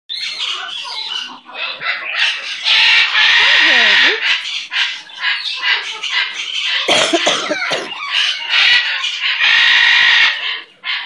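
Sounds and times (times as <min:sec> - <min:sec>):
low gliding bird calls: 0:00.1 - 0:11.0
macaw squawking: 0:00.1 - 0:11.0.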